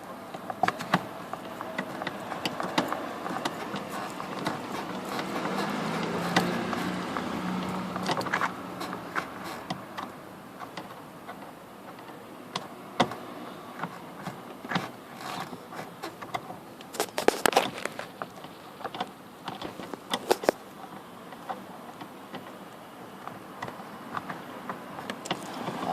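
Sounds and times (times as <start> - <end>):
clicks and knocks of parts: 0.3 - 13.2, 13.8 - 25.9.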